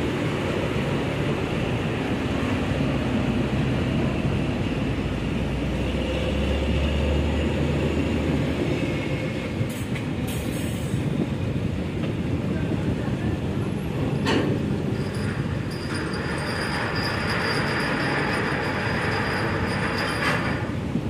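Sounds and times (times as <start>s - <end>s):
ship engines low rumble: 0.0s - 21.0s.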